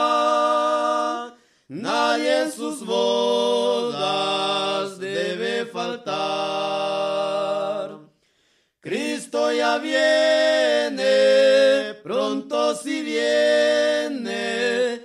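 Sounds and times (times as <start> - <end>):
a cappella hymn singing: 0.0 - 8.1, 8.8 - 15.0.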